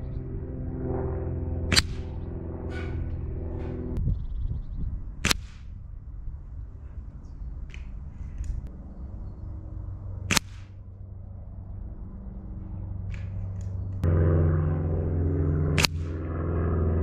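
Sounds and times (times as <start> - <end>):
steady low drone: 0.0 - 17.0.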